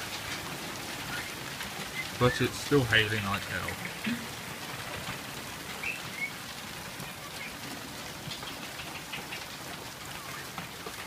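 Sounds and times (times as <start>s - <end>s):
heavy hail falling: 0.0s - 11.0s.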